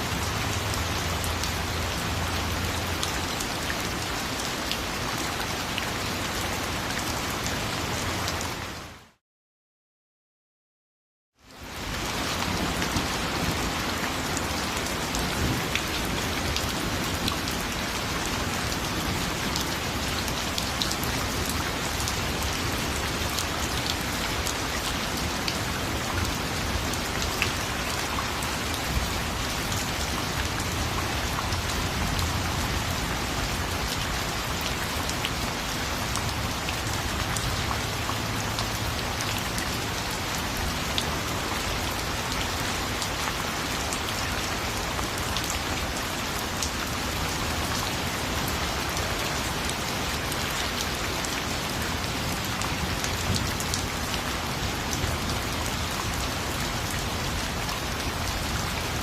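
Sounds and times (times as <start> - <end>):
raindrops ticking on a surface: 0.1 - 8.4, 11.4 - 59.0
steady rain hiss: 11.5 - 59.0.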